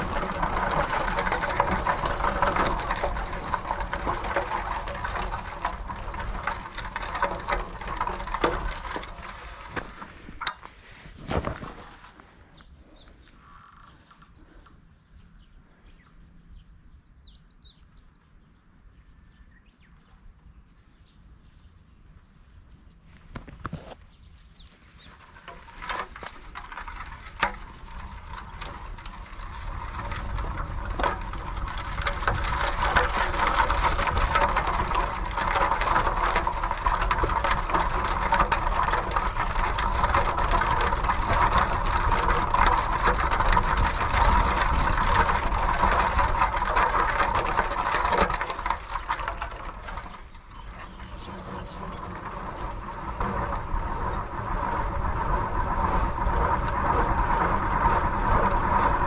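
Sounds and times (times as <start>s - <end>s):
bicycle rattles: 0.0s - 15.5s, 21.6s - 59.0s
bicycle tyre and road noise: 0.0s - 59.0s.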